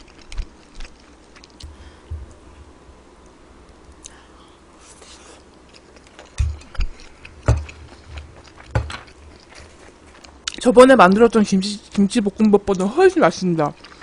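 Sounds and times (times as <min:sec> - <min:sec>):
quiet chewing: 0:00.0 - 0:02.4, 0:03.2 - 0:11.3, 0:11.9 - 0:14.0.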